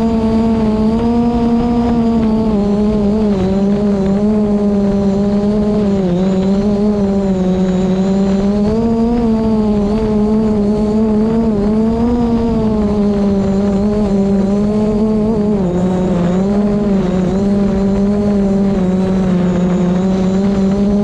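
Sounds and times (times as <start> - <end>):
drone propellers humming: 0.0 - 21.0
wind buffeting microphone: 0.0 - 21.0.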